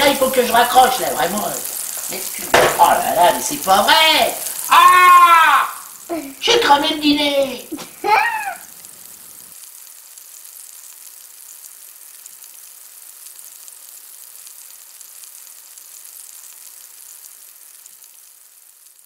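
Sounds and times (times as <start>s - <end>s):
food sizzling in a hot pan: 0.0s - 19.0s.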